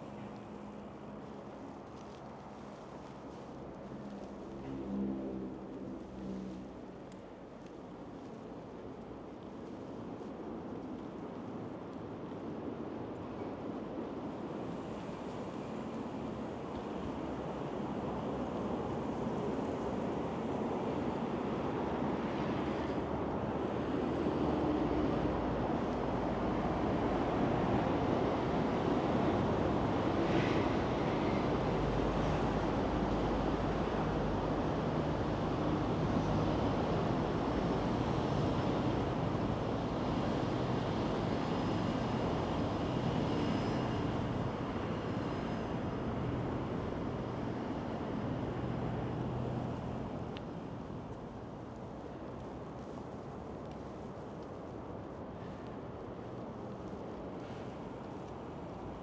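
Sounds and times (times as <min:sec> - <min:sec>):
road traffic hum: 0:00.0 - 0:08.0, 0:14.5 - 0:59.0.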